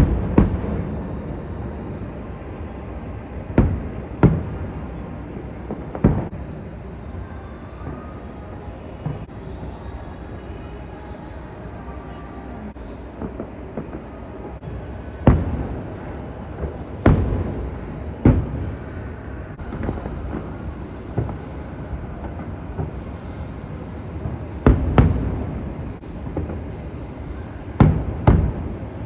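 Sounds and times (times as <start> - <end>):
fireworks booming: 0.0 - 9.8, 12.8 - 29.0.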